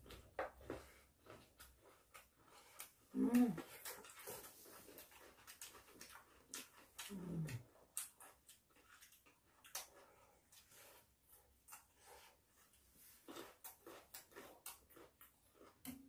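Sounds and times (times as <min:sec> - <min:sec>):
carrot crunching and chewing: 0:00.0 - 0:16.0.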